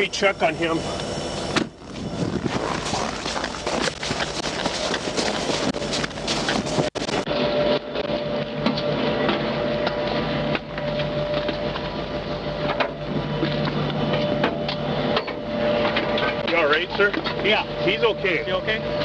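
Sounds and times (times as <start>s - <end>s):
mechanical hum with held tone: 0.0s - 19.0s.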